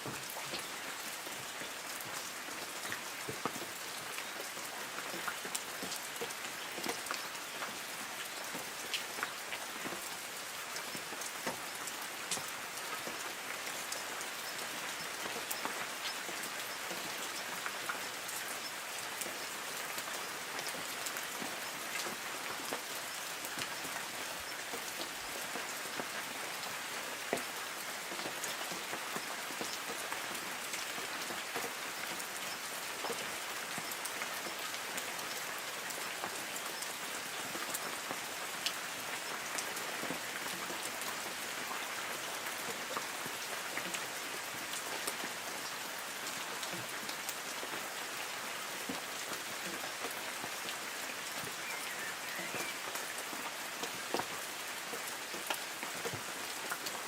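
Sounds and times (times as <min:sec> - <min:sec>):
rain hissing on leaves: 0:00.0 - 0:57.0.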